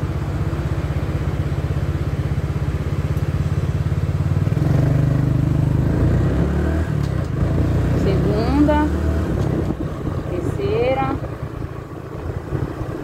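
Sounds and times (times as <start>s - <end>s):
scooter engine idling and revving: 0.0s - 13.0s.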